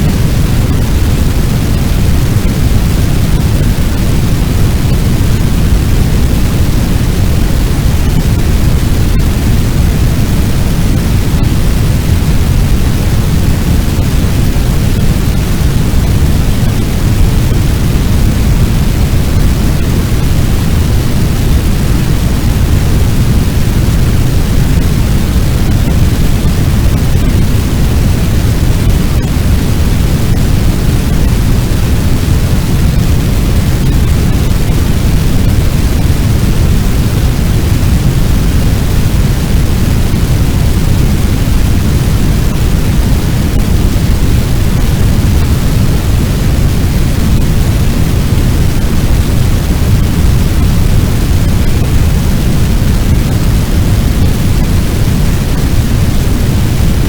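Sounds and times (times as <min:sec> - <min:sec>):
large blaze rushing: 0:00.0 - 0:57.0.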